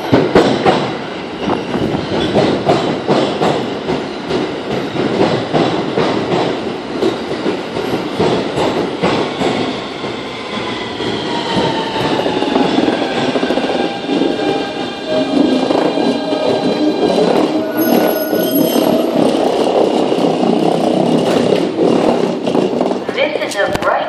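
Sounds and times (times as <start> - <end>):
train wheels clacking on rails: 0.0 - 23.8.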